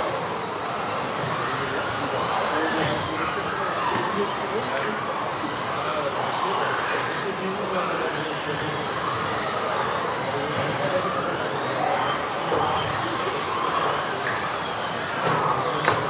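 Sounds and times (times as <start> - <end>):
rc car motors whining: 0.0 - 16.0.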